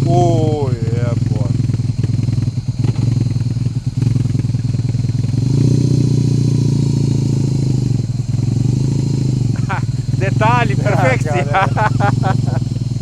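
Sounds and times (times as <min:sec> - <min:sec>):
motorcycle engine idling: 0:00.0 - 0:10.8, 0:11.5 - 0:13.0.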